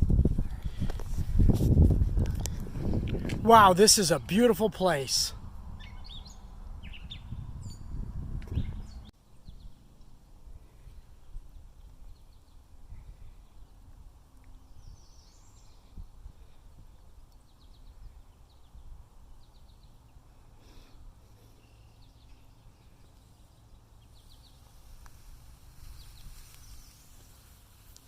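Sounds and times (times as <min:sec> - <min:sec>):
small birds chirping: 0:03.3 - 0:28.0.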